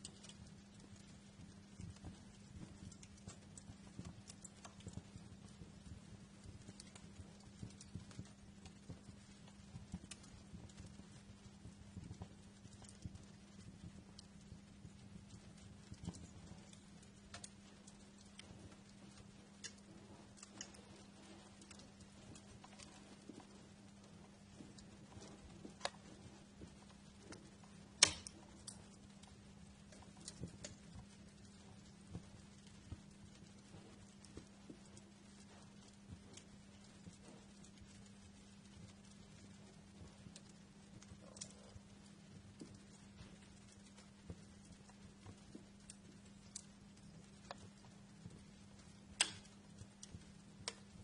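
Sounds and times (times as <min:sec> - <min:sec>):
low steady hum: 0:00.0 - 0:51.0
wood fire crackling: 0:00.0 - 0:51.0.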